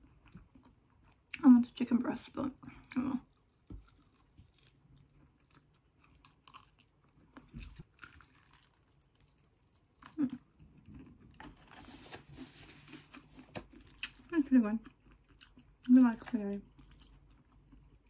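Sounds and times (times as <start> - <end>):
chewing crispy fried chicken: 0.0 - 11.7, 12.8 - 18.0.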